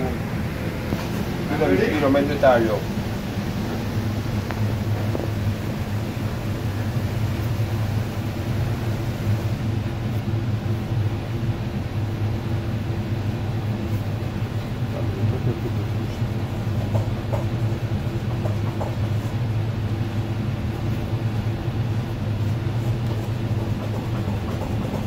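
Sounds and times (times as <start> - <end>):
low machinery drone: 0.0 - 25.0.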